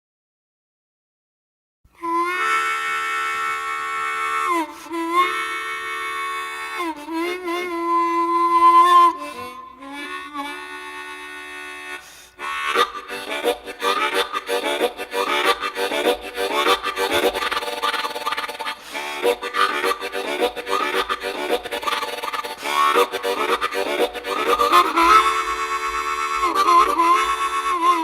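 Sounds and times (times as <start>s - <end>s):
blues harmonica: 2.0s - 28.0s.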